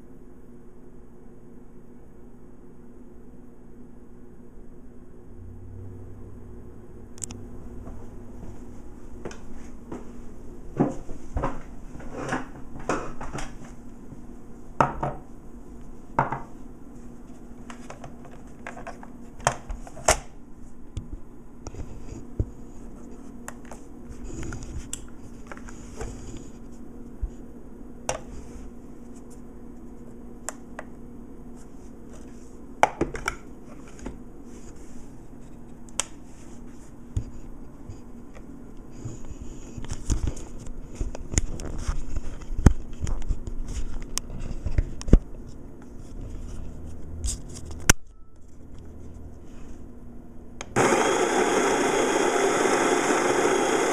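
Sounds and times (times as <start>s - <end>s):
steady low hum: 0.0s - 51.3s.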